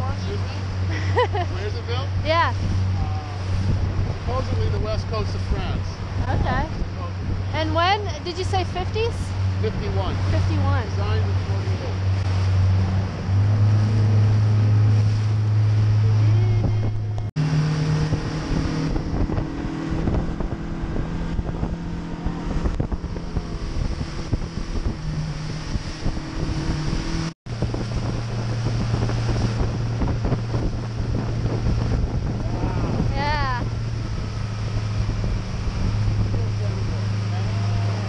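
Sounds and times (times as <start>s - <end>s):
boat engine running: 0.0s - 38.0s
wind noise on microphone: 0.0s - 38.0s.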